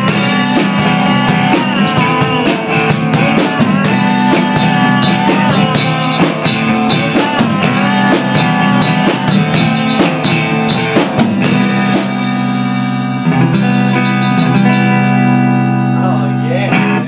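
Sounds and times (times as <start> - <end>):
drum kit playing: 0.0 - 17.0
guitar playing: 0.0 - 17.0.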